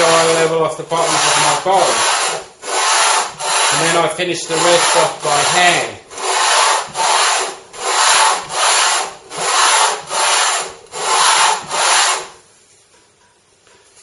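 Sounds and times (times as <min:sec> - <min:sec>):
wood rubbed on sandpaper: 0:00.0 - 0:12.4.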